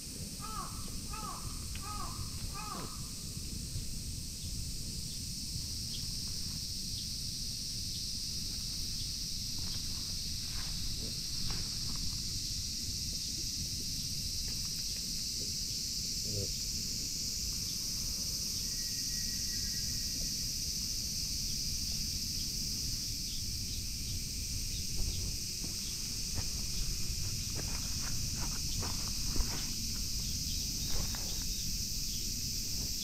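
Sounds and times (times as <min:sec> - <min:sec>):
cicadas droning: 0:00.0 - 0:33.0.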